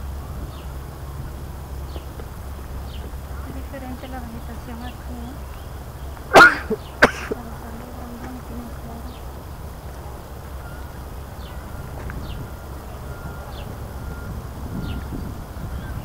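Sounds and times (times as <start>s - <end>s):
birds chirping: 0.0s - 16.0s
low microphone rumble: 0.0s - 16.0s.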